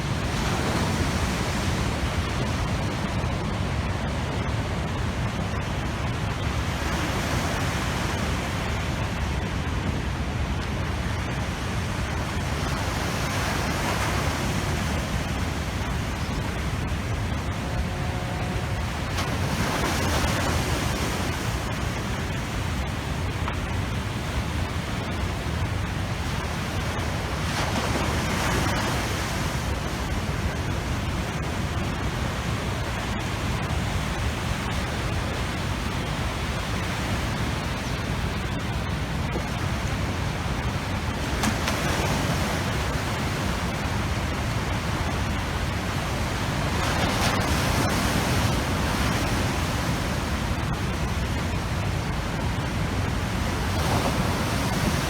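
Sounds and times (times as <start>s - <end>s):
storm surf breaking: 0.0s - 55.0s
wind buffeting microphone: 0.0s - 55.0s.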